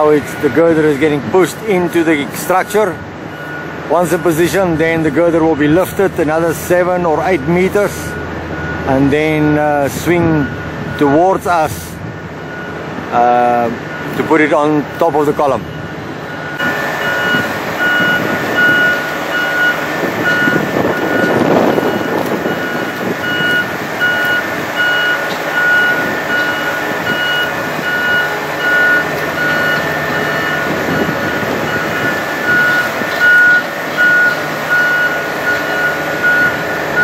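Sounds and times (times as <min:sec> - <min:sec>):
crane engines running: 0:00.0 - 0:37.0
crane warning alarm beeping: 0:00.0 - 0:37.0.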